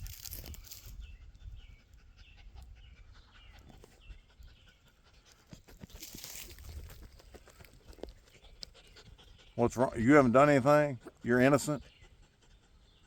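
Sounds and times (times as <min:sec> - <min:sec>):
dog panting: 0:00.7 - 0:13.0.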